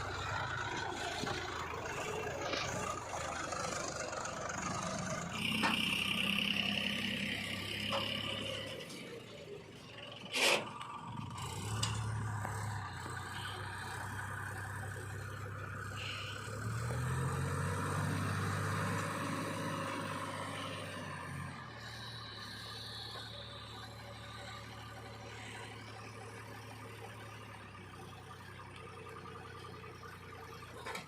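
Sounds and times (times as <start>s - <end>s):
heavy diesel engine revving: 0.0s - 31.0s.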